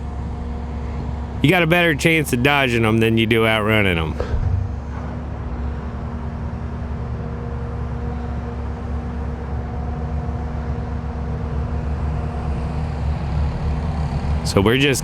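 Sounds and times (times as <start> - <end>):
engine running low rumble: 0.0 - 15.0.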